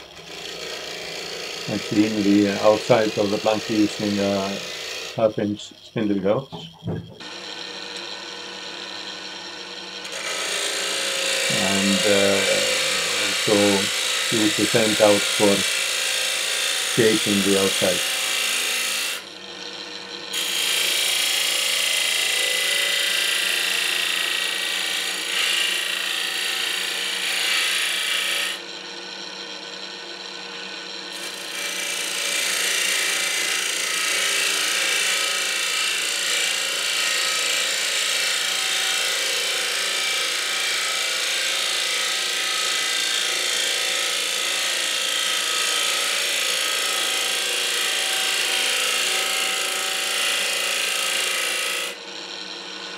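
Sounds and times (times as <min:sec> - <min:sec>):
wood lathe humming: 0:00.0 - 0:52.9.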